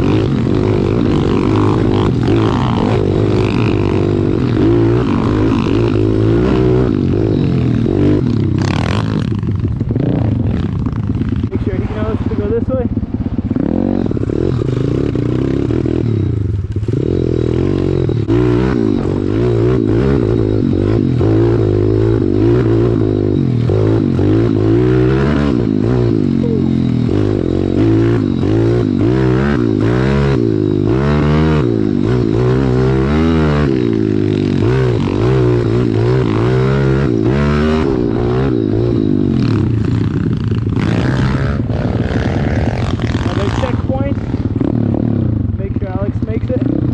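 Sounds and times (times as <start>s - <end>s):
motorbike engine revving: 0.0s - 46.9s.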